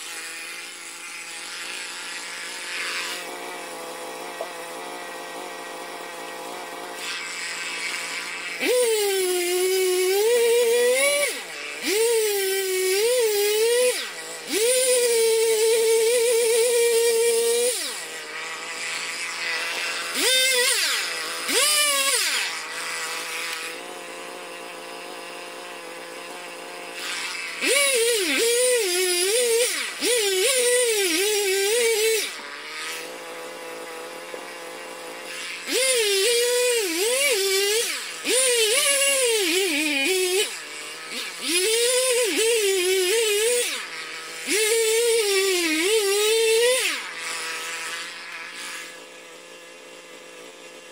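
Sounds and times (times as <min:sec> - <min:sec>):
chainsaw cutting logs: 0:00.0 - 0:50.9.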